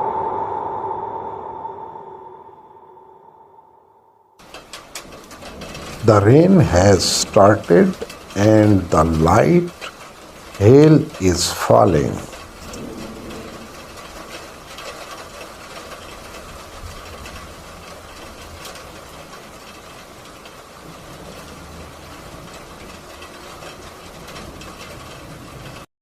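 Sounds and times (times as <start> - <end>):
hail ticking: 4.4 - 25.9
rain hissing: 4.4 - 25.9.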